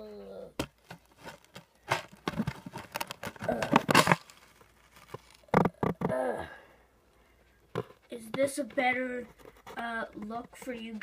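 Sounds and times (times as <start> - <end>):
cardboard tube rustling and tapping: 0.5 - 6.3, 7.6 - 11.0.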